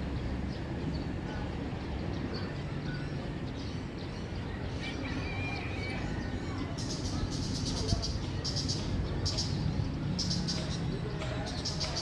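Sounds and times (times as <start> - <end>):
small bird chirps: 1.9 - 12.0.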